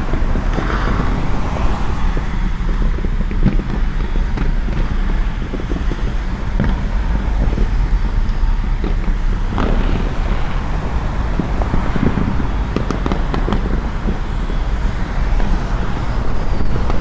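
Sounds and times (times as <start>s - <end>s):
distant fireworks popping and crackling: 0.0s - 17.0s
low rumble: 0.0s - 17.0s.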